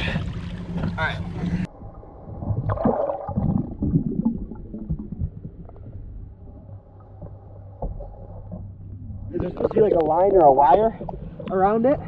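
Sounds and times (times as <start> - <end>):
bubbling: 0.0 - 11.6
water swishing underwater: 0.0 - 12.0.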